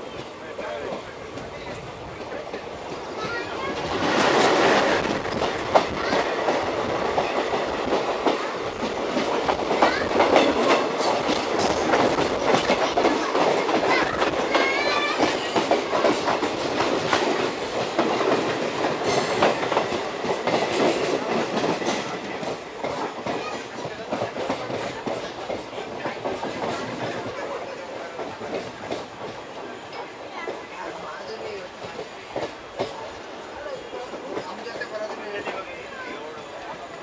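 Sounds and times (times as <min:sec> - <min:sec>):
train coaches rushing past: 0:00.0 - 0:37.0
wheels clacking over rail joints: 0:00.1 - 0:33.2.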